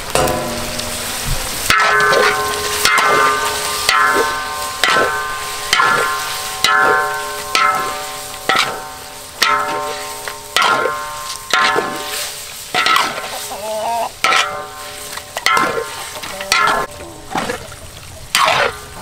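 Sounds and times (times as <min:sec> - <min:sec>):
spatula scraping and clanging on wok: 0:00.1 - 0:17.0, 0:18.3 - 0:19.0.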